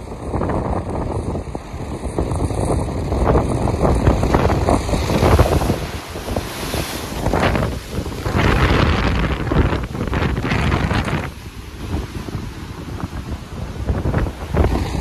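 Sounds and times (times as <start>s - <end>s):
waves splashing against rocks: 0.0s - 15.0s
wind buffeting microphone: 0.0s - 15.0s.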